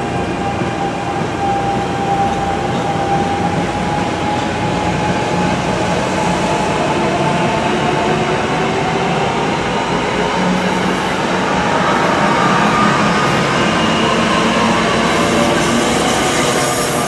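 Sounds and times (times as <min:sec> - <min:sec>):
rush of train wheels on rail: 0:00.0 - 0:17.0.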